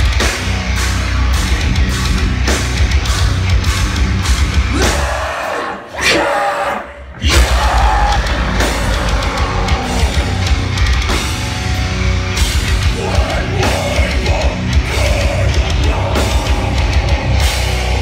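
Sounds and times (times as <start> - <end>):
fast dense drumming: 0.0 - 5.4, 7.2 - 18.0
distorted guitars: 0.0 - 18.0.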